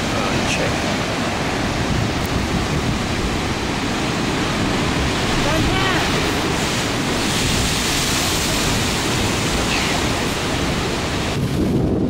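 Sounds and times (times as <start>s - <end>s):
breaking surf: 0.0s - 12.0s
wind: 0.0s - 12.0s
wind buffeting microphone: 0.0s - 12.0s.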